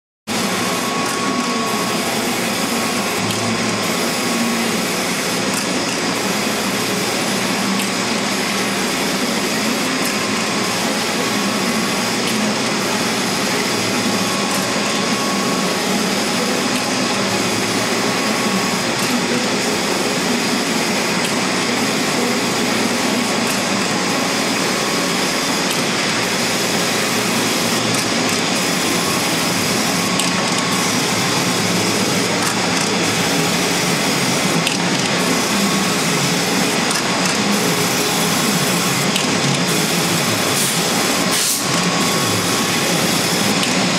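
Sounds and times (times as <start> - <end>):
industrial machine whirring: 0.3 - 43.9.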